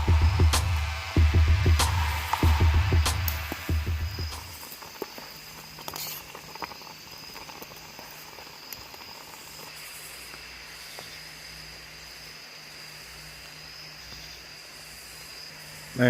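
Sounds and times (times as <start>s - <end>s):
creek water running: 0.0s - 16.0s
high insect drone: 0.0s - 16.0s.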